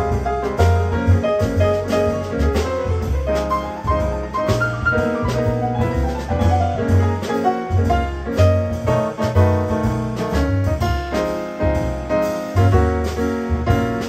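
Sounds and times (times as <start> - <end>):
jazz grand piano: 0.0 - 14.0
plucked upright bass: 0.0 - 14.0.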